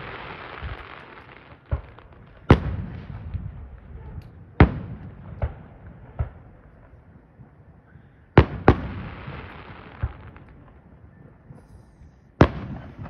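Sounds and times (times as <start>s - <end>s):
fireworks bangs echoing: 0.0s - 7.6s, 8.3s - 13.0s.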